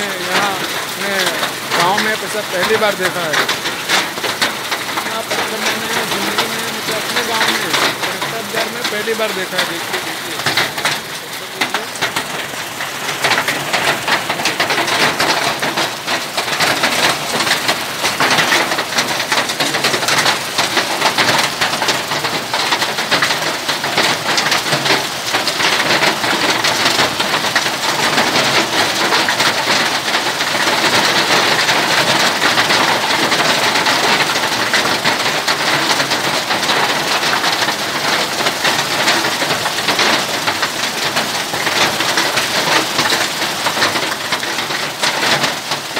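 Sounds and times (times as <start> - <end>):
hailstones on wet concrete: 0.0 - 45.9.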